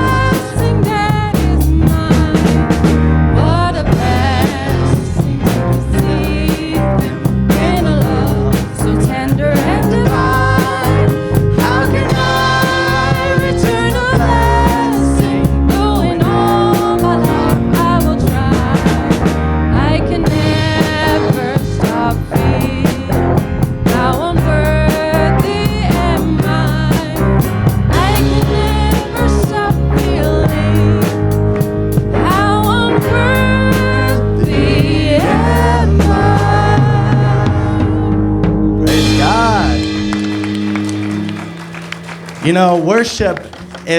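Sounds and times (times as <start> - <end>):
person singing: 0.0 - 2.6, 3.4 - 31.3, 32.2 - 40.9
band playing upbeat song: 0.0 - 43.9.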